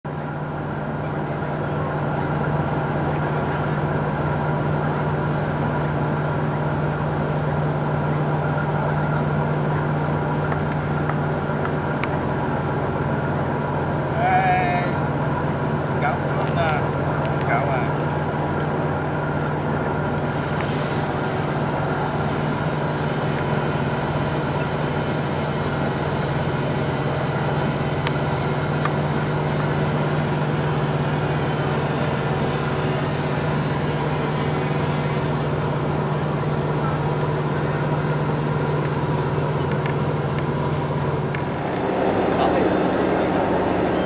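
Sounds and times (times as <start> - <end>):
steady machine hum: 0.1 - 44.0.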